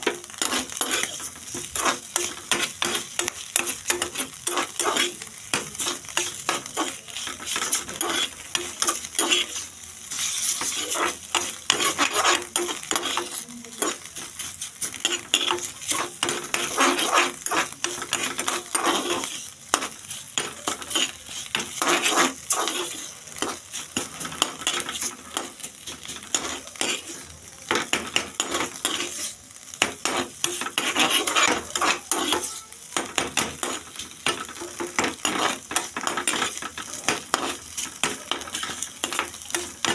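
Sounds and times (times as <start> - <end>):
metal spatula scraping pan: 0.0 - 39.9
onions sizzling in oil: 0.0 - 39.9.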